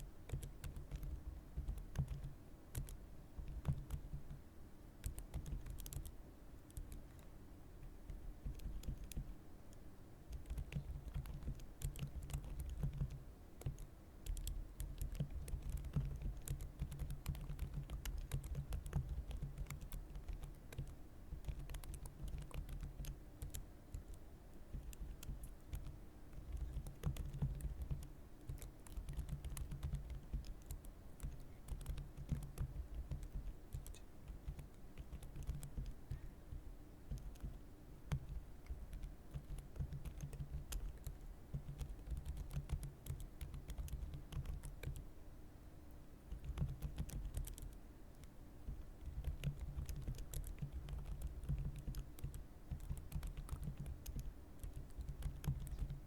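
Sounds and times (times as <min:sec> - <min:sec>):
typing on computer keyboard: 0:00.2 - 0:04.4, 0:05.0 - 0:07.3, 0:08.1 - 0:09.3, 0:10.3 - 0:45.1, 0:46.3 - 0:56.0.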